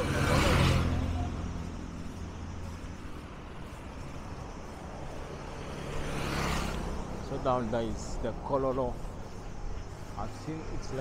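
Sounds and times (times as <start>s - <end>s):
vehicle approaching: 0.0s - 11.0s
vehicle passing by: 0.0s - 11.0s.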